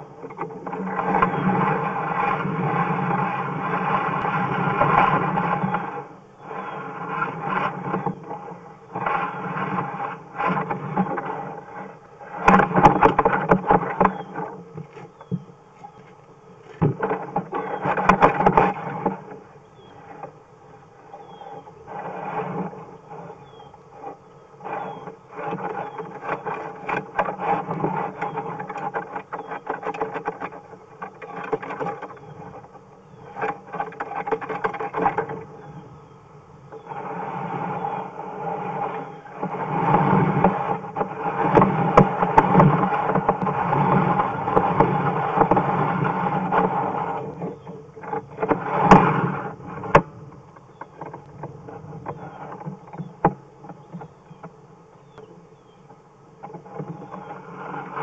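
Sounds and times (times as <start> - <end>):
cable scraping through drain pipe: 0.0 - 36.0, 36.7 - 54.5, 56.4 - 58.0.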